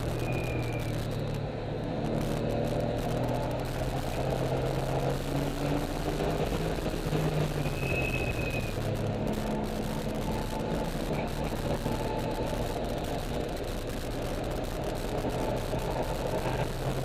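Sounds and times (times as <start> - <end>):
car engine at speed: 0.0 - 17.0
road and tyre noise: 0.0 - 17.0.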